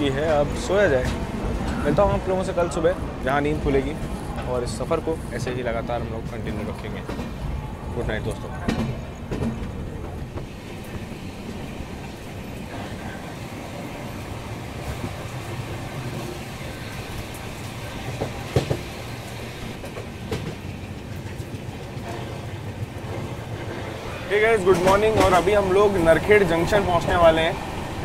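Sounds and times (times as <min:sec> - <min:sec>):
rail clicks and clacks: 0:00.0 - 0:28.0
train wheels rumbling on rails: 0:00.0 - 0:28.0.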